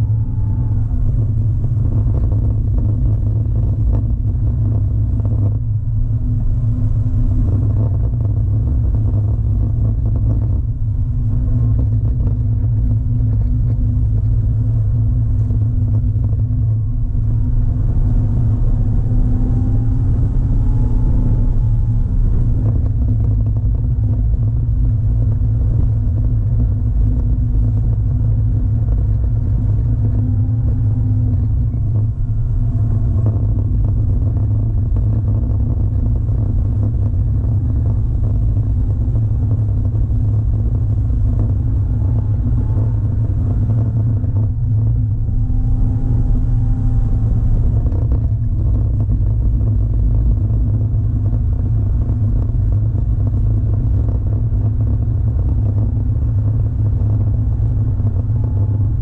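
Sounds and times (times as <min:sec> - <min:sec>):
car engine rumbling from inside: 0:00.0 - 0:59.0
road noise: 0:00.0 - 0:59.0.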